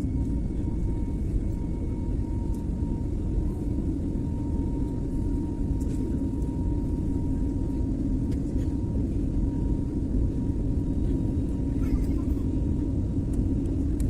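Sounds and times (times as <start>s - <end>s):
engine and airflow rumble: 0.0s - 14.0s
faint whine: 0.0s - 14.0s.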